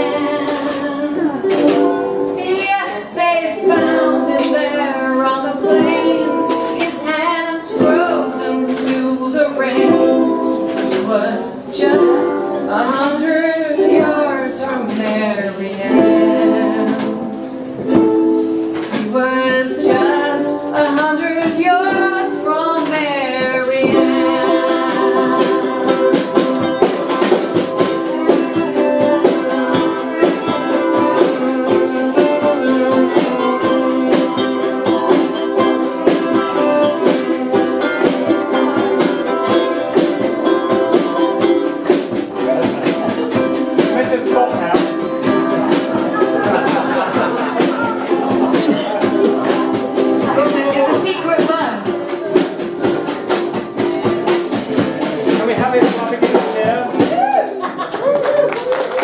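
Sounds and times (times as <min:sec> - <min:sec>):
voices singing: 0:00.0 - 0:57.9
strummed acoustic string instruments: 0:00.0 - 0:58.0.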